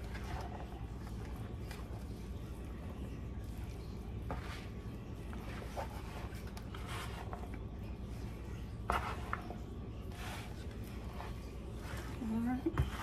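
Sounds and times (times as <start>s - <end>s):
spoon stirring food in bowl: 0.0s - 13.0s.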